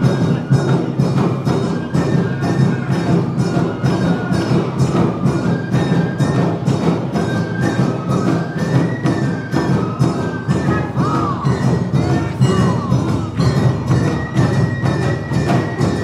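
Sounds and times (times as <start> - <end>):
bamboo flute melody: 0.0 - 16.0
drums and hand gong beating: 0.0 - 16.0.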